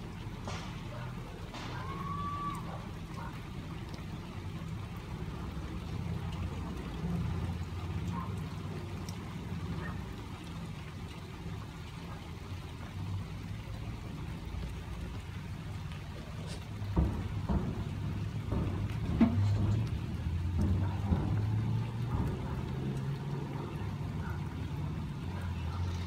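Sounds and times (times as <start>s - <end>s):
light rain hiss: 0.0s - 26.0s.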